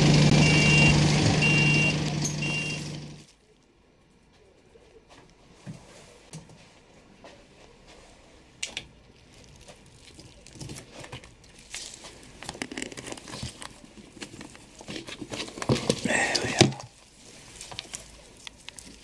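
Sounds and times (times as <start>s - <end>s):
leaves rustling and crinkling: 2.0s - 19.0s.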